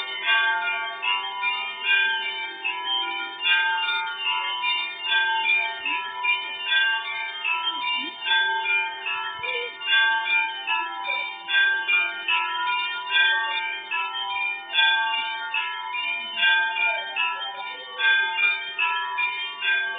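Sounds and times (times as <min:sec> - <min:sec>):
church bells ringing: 0:00.0 - 0:19.9.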